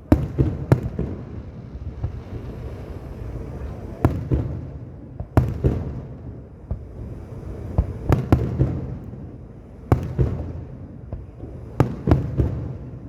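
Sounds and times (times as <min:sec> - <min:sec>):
fireworks bangs: 0:00.0 - 0:13.0
low rolling rumble: 0:00.0 - 0:13.0.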